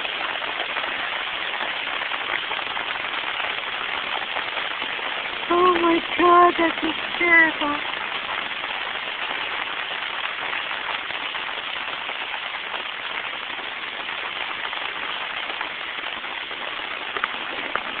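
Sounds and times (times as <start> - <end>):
rain on standing water: 0.0 - 18.0.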